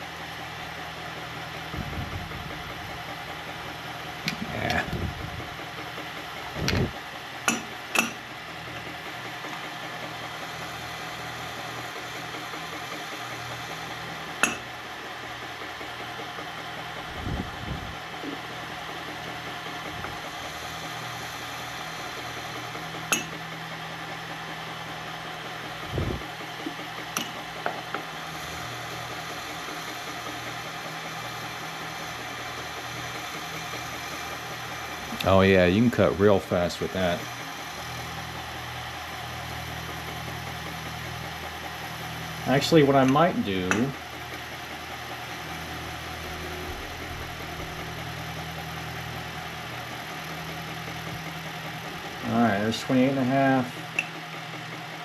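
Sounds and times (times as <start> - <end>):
milling machine cutting: 0.0 - 55.0.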